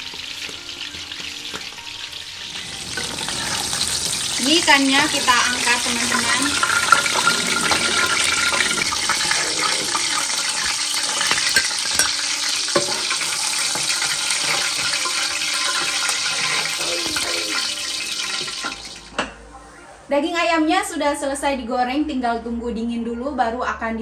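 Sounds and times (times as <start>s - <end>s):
hot oil sizzling: 0.0s - 19.3s.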